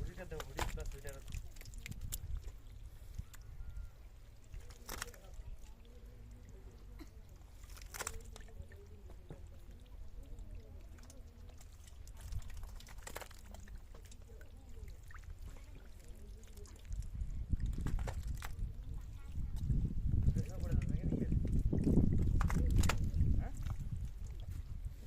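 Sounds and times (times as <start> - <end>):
faint voices: 0.0 - 25.0
water pouring and splashing: 0.0 - 25.0.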